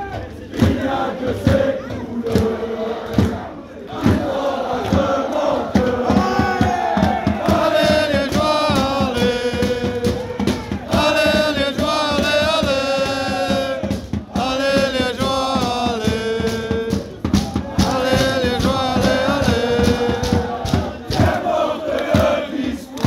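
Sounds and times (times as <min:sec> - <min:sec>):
crowd singing a chant: 0:00.0 - 0:23.0.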